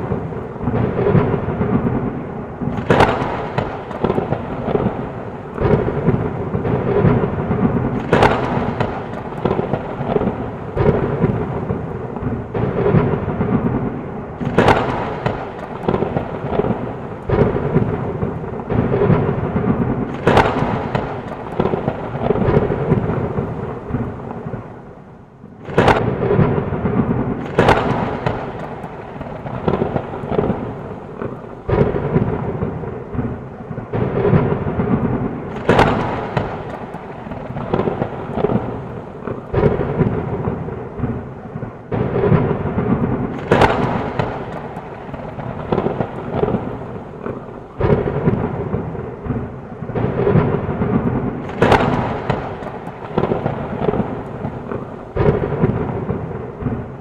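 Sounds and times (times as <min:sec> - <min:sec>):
thunder cracks and rumbles: 0:00.0 - 0:24.9, 0:25.6 - 0:57.0
heavy rain: 0:00.0 - 0:57.0.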